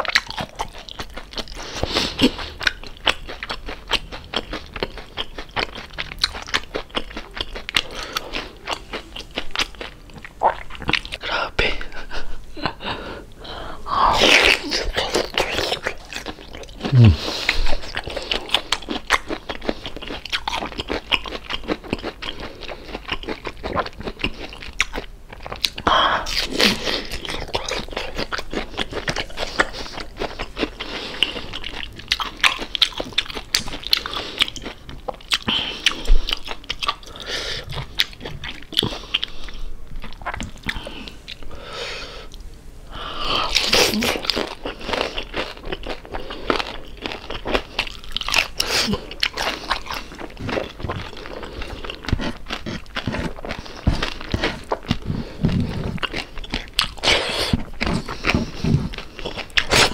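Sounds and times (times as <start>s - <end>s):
person crunching crispy food: 0.0s - 11.2s, 14.1s - 41.4s, 43.5s - 59.9s.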